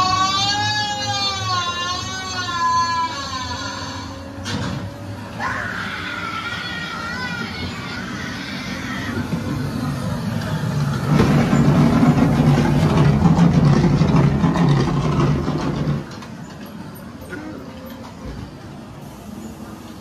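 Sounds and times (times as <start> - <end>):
ride car rumbling along track: 0.0 - 20.0.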